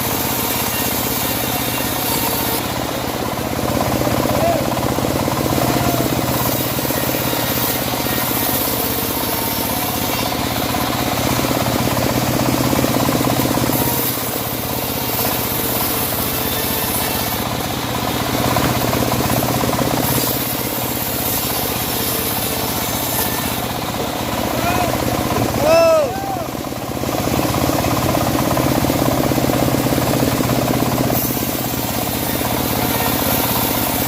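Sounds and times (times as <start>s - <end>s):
bandsaw motor hum: 0.0s - 34.0s
saw blade cutting log: 0.0s - 34.0s.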